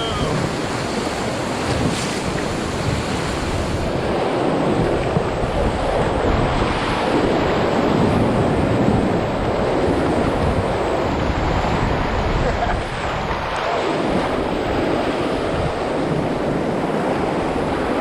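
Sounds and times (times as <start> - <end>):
whitewater rushing: 0.0 - 18.0.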